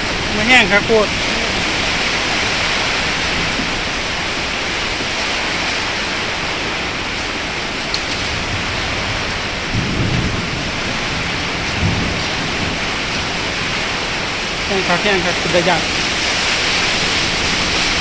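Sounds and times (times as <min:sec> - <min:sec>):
low thunder rumbles: 0:00.0 - 0:05.0, 0:08.3 - 0:18.0
heavy rain pouring: 0:00.0 - 0:18.0.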